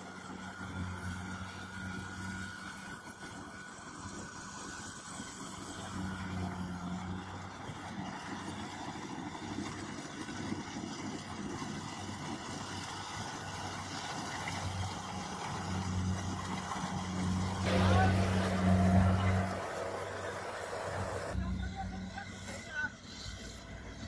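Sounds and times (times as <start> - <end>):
combine harvester engine hum: 0.0 - 24.0.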